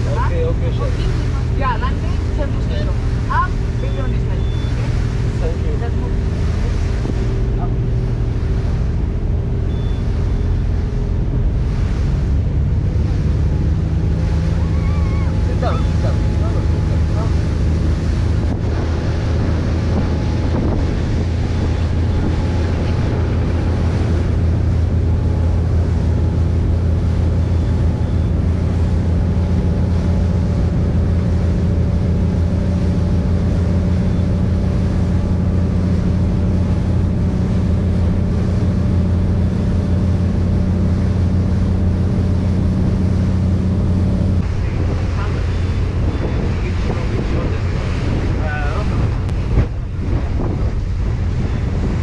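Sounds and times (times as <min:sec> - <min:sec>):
boat engine humming: 0:00.0 - 0:52.0
rush of boat wake: 0:00.0 - 0:52.0
wind buffeting microphone: 0:00.0 - 0:52.0.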